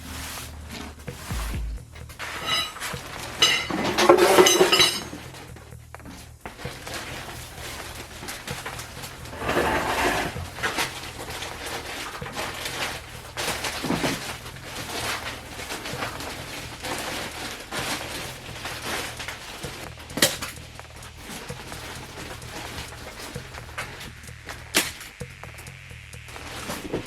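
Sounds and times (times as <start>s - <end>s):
scraping: 0.0s - 27.0s
clatter and knocks of hand work: 0.7s - 24.6s.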